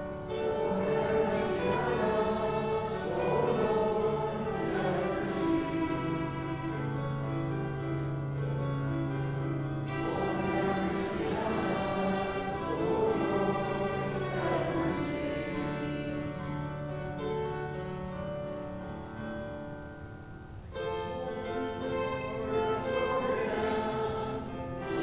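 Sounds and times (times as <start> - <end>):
church organ chords: 0.0 - 25.0
voices faintly singing: 0.0 - 25.0.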